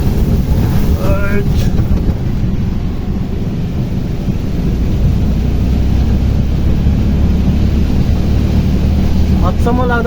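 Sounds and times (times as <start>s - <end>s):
vehicle rumble in motion: 0.0s - 10.0s
wind noise on microphone: 0.0s - 10.0s.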